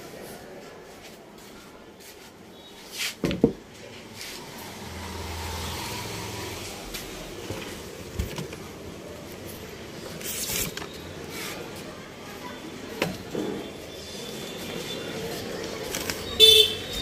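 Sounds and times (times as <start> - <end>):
faint background voices: 0.0 - 17.0.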